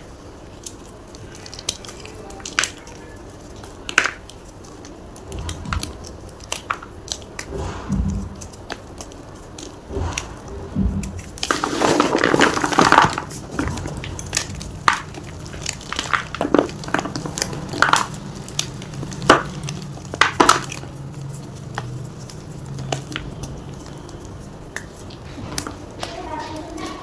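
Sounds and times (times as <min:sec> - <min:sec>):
chalk crunching and crumbling: 0:00.0 - 0:27.0.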